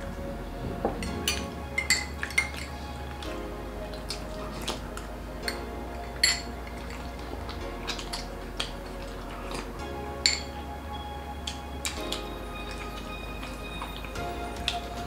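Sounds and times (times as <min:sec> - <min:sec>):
background music: 0:00.0 - 0:15.0
metal spoons clinking on bowls: 0:01.0 - 0:03.3, 0:03.9 - 0:15.0.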